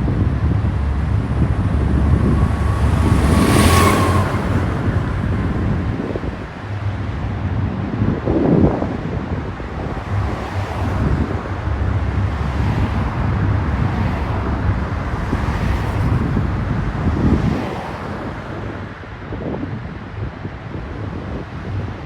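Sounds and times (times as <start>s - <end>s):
low hum: 0.0s - 18.2s
freight train wheels rumbling: 0.0s - 19.2s
wind buffeting microphone: 0.0s - 22.0s.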